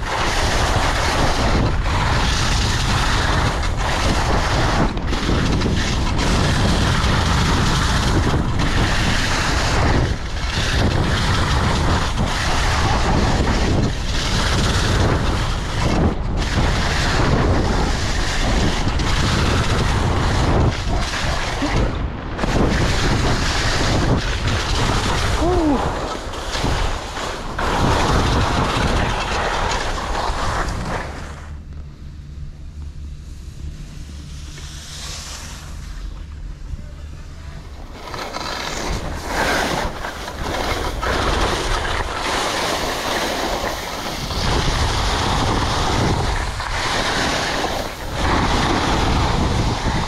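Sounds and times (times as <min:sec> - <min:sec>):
skis hissing over snow: 0:00.0 - 0:31.4, 0:33.2 - 0:50.0
wind rushing over microphone: 0:00.0 - 0:50.0.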